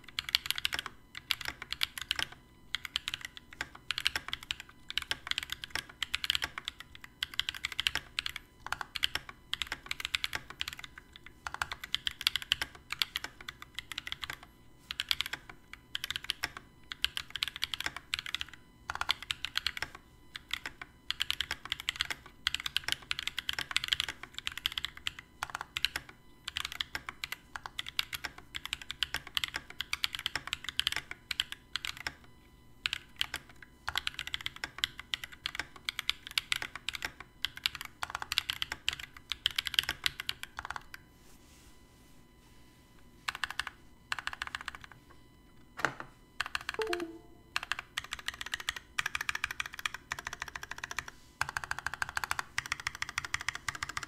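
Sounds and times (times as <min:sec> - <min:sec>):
fast mechanical keyboard typing: 0:00.0 - 0:32.2, 0:32.8 - 0:41.0, 0:43.3 - 0:45.0, 0:46.4 - 0:54.0.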